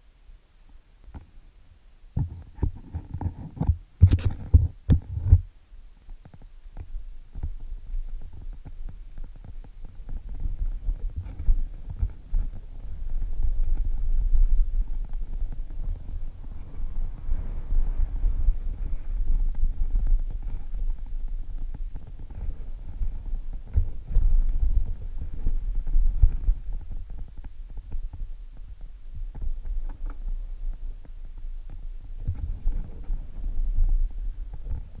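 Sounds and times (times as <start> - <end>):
wind rumble: 0.0 - 35.0.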